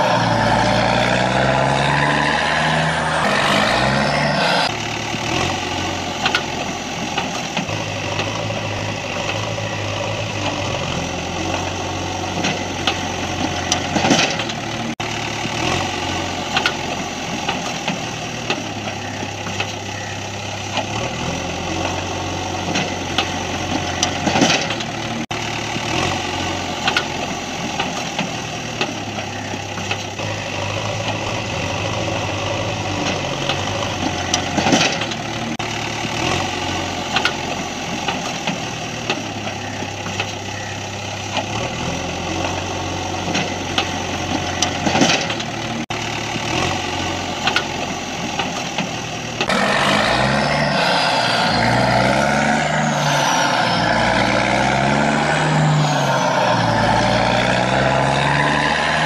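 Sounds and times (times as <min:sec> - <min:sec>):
short engine rattle: 0:03.2 - 0:58.4.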